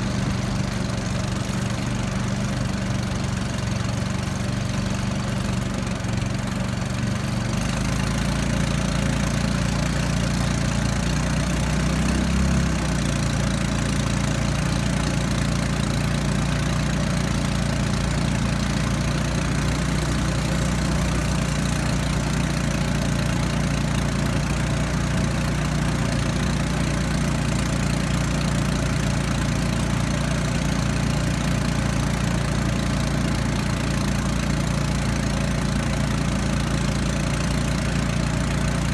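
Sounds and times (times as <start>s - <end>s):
small raft engine running: 0.0s - 38.9s.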